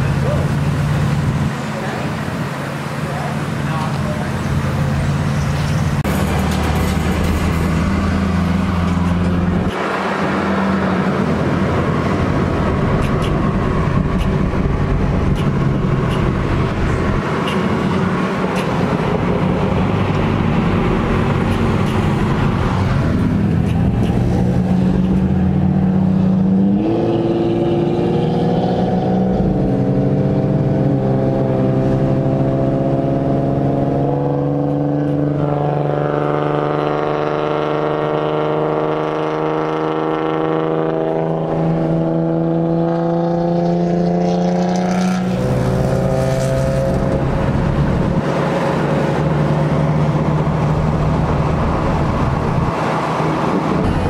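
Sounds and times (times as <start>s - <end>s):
car engine revving: 0.0s - 54.0s
road noise inside car: 0.0s - 54.0s.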